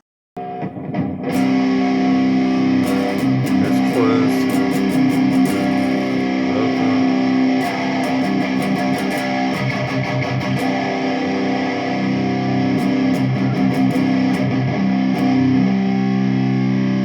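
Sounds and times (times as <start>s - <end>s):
electric guitar notes and chords: 0.4s - 17.0s.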